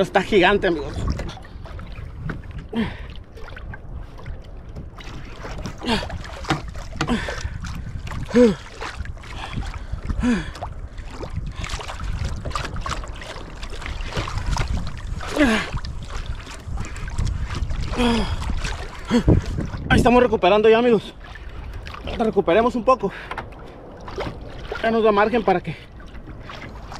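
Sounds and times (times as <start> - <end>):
wind and water on microphone: 0.0 - 26.9.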